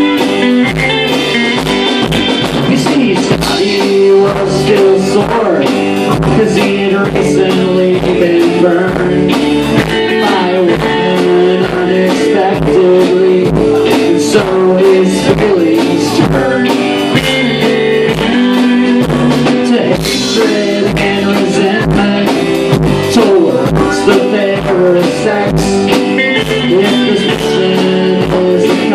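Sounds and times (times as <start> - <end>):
live rock band playing: 0.0 - 28.9.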